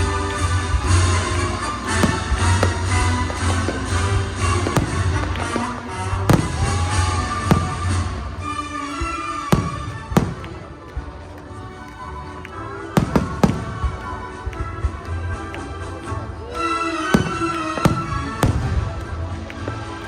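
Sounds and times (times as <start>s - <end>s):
fireworks booming and cracking: 0.0s - 12.2s, 12.8s - 15.1s, 16.8s - 20.0s
music playing: 0.0s - 20.0s.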